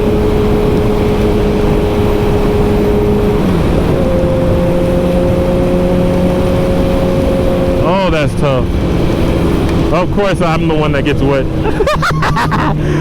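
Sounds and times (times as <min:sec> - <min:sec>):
motorcycle engine cruising: 0:00.0 - 0:13.0
wind rumble on microphone: 0:00.0 - 0:13.0.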